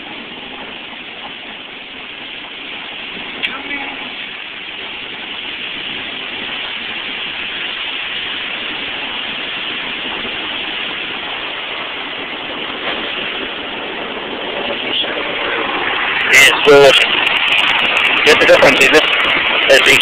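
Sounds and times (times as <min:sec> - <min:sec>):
car wash water spray hissing: 0:00.0 - 0:20.0.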